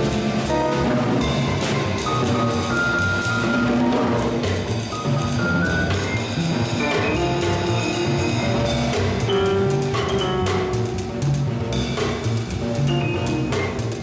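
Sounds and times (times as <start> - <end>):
double bass: 0.0 - 14.0
drum kit with cymbals: 0.0 - 14.0
piano: 0.0 - 14.0.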